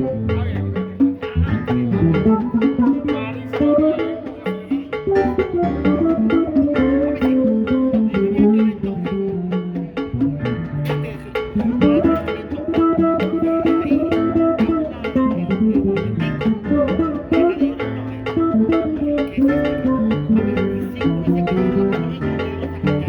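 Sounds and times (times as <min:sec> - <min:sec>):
bass line: 0:00.0 - 0:23.0
plucked guitar notes: 0:00.0 - 0:23.0.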